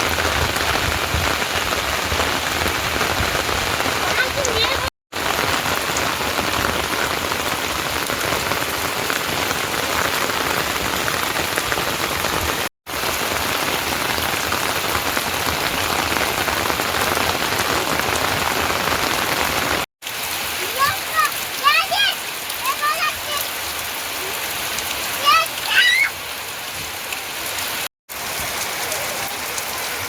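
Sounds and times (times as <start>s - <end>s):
heavy rain pattering: 0.0s - 30.0s.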